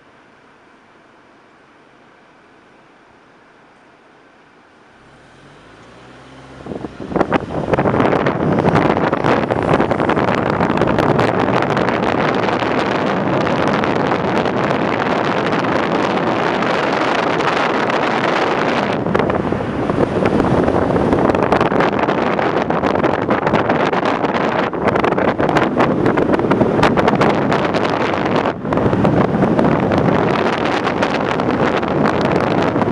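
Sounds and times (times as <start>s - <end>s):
wind buffeting microphone: 5.0s - 32.9s.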